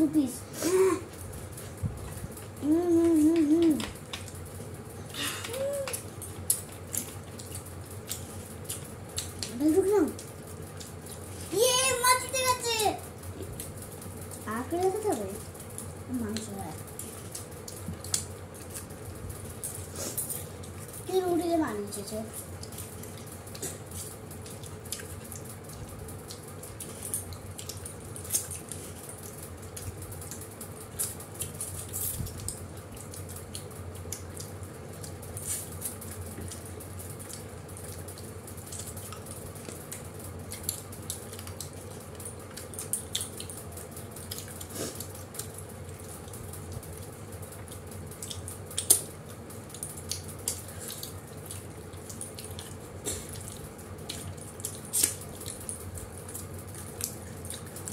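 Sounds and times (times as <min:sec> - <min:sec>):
people chewing: 0:00.0 - 0:57.9.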